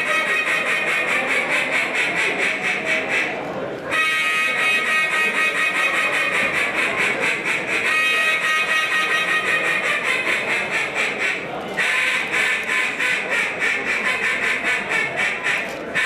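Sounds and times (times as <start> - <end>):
duck call quacking: 0.0 - 16.0.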